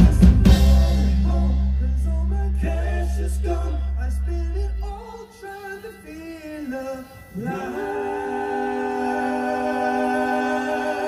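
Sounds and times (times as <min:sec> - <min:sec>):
person singing live: 0:00.0 - 0:11.0.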